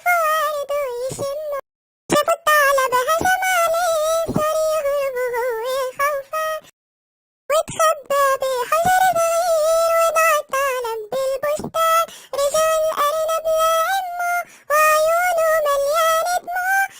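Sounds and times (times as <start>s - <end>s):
cartoon voice singing children's song: 0.0s - 6.7s, 7.5s - 16.9s.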